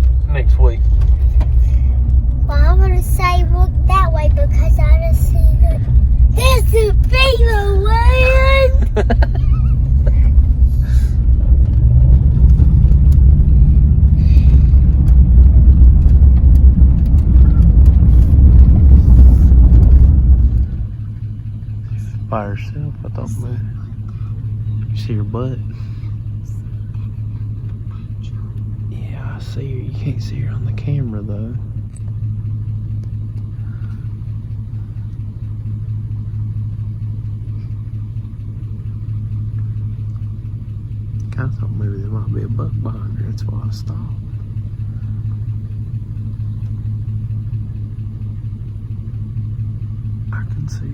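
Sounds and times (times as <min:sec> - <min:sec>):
vehicle engine and road noise: 0:00.0 - 0:50.9.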